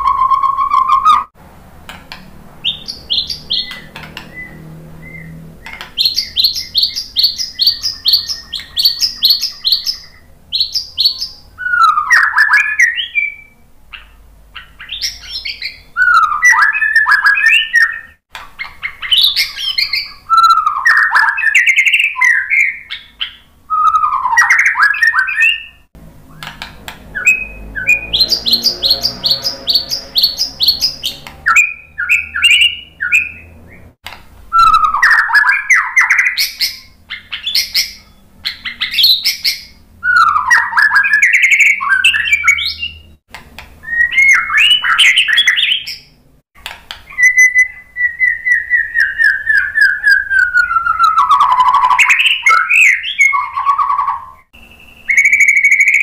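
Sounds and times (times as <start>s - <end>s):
bird singing whistled phrases: 0.0s - 1.3s, 2.6s - 18.2s, 18.8s - 33.9s, 34.5s - 43.1s, 43.8s - 46.2s, 47.1s - 56.0s.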